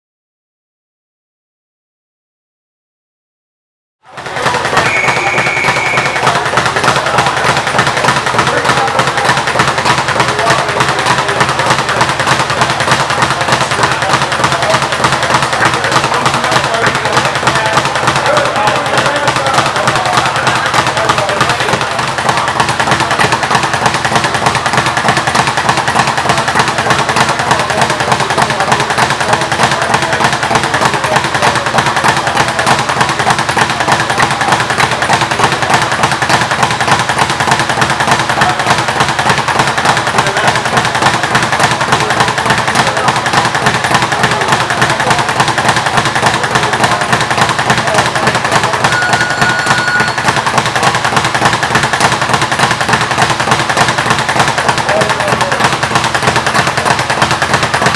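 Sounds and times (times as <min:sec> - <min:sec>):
speed bag punching rhythm: 0:04.1 - 0:57.9.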